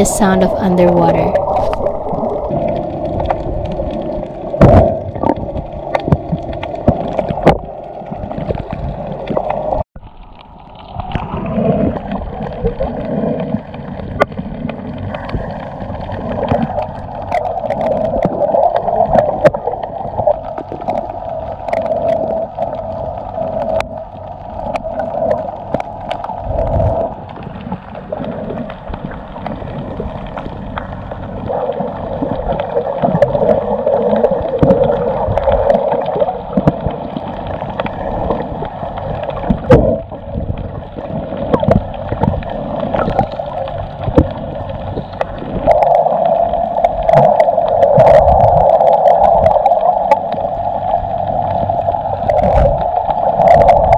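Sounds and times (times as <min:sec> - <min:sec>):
muffled underwater gurgling: 0:00.0 - 0:09.8, 0:10.7 - 0:53.9
underwater clicks: 0:01.3 - 0:53.9.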